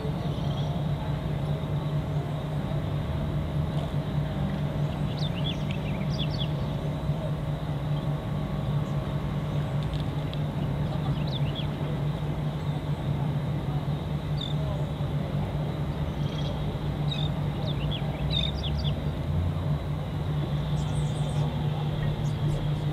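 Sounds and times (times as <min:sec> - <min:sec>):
low motor hum: 0:00.0 - 0:22.9.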